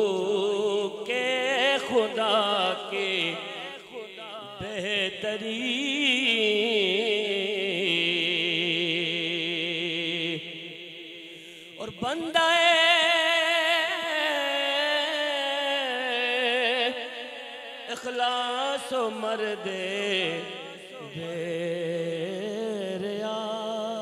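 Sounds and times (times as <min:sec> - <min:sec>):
person singing devotional song: 0:00.0 - 0:24.0.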